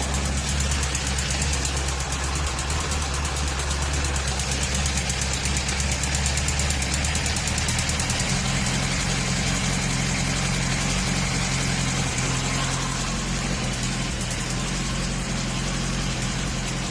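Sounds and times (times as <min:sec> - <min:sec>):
abnormal mechanical engine noise: 0:00.0 - 0:16.9
motorcycle engine idling: 0:00.0 - 0:16.9.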